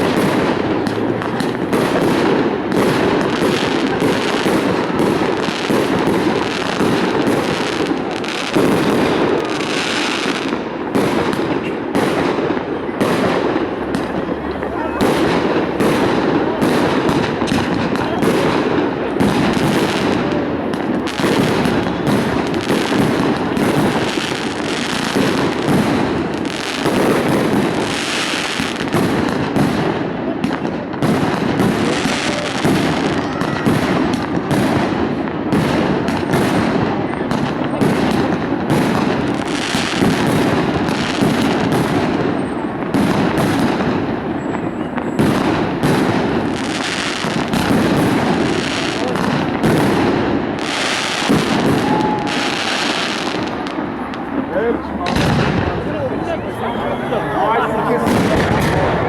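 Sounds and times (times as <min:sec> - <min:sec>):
crowd murmuring: 0:00.0 - 0:59.0
fireworks exploding: 0:00.0 - 0:59.0.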